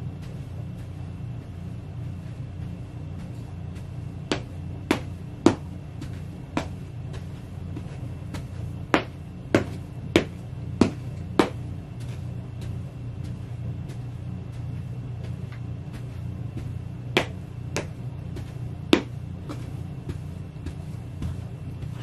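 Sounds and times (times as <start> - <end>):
steady low hum: 0.0 - 22.0
boots stomping on floor: 0.1 - 22.0.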